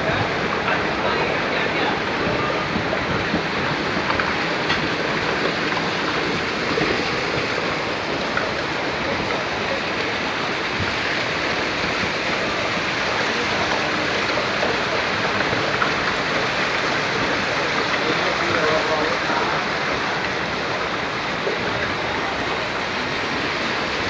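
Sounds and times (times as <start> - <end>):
floodwater rushing and splashing: 0.0 - 24.0.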